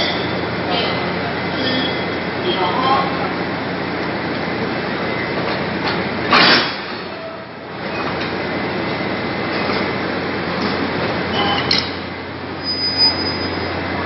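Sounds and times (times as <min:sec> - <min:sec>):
diesel locomotive idling: 0:00.0 - 0:14.0.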